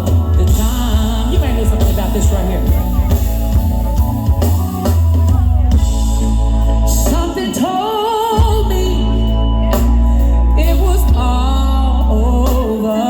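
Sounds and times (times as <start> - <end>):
song with heavy bass line: 0.0 - 13.0.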